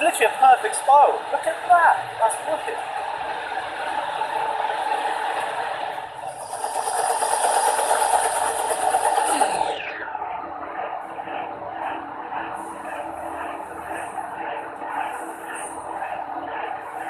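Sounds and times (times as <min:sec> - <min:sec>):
fans and fire tornado roaring: 0:00.0 - 0:17.0.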